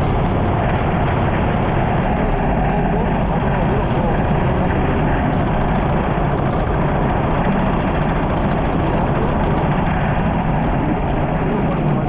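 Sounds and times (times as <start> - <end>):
heavy rain falling: 0.0 - 12.0
low rumble: 0.0 - 12.0.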